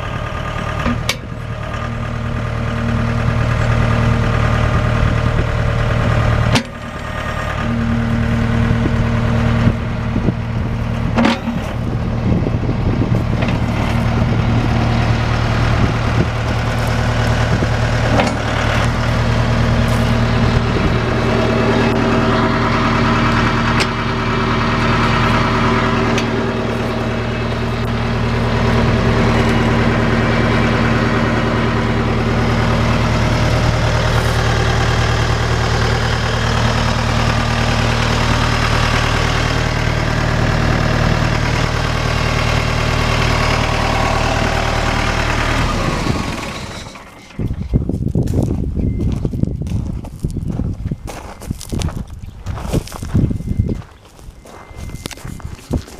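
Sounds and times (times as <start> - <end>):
tractor diesel engine idling: 0.0 - 55.9.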